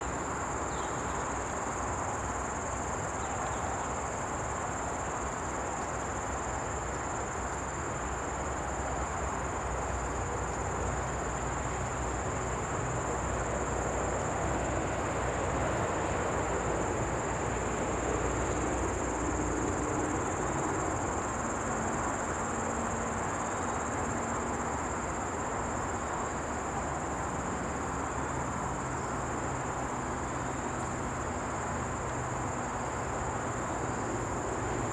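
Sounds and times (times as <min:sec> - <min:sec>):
bush cricket chirping: 0:00.0 - 0:34.9.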